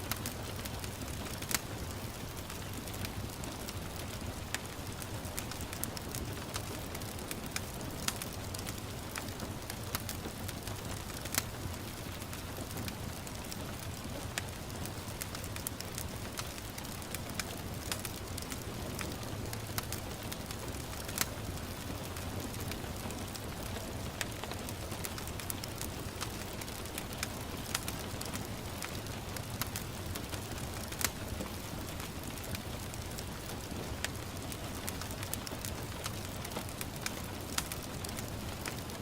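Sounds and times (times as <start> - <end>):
gentle rain: 0.0 - 39.0
wood fire crackling: 0.0 - 39.0.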